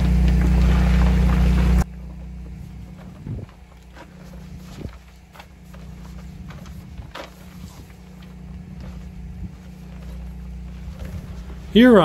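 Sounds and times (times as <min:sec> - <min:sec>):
low mechanical hum: 0:00.0 - 0:12.0
tarp door rustling: 0:00.0 - 0:12.0.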